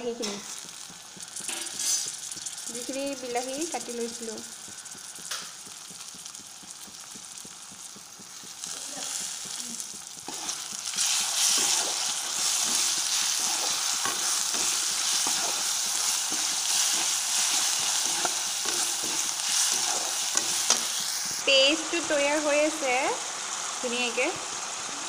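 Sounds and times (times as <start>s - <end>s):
tomatoes sizzling in hot oil: 0.0s - 25.0s.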